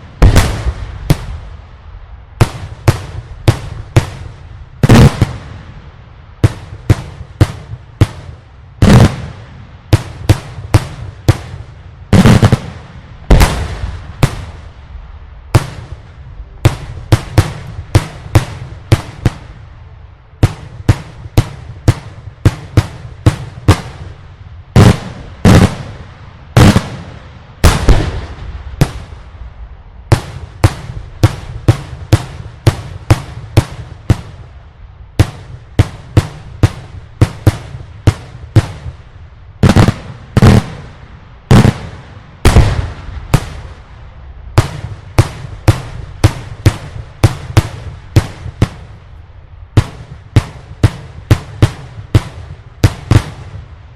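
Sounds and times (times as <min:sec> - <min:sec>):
echoing firework booms: 0:00.0 - 0:01.6, 0:02.4 - 0:19.7, 0:20.4 - 0:34.6, 0:35.2 - 0:39.0, 0:39.6 - 0:49.0, 0:49.7 - 0:53.8
fireworks bursts and bangs: 0:00.0 - 0:01.6, 0:02.3 - 0:53.9.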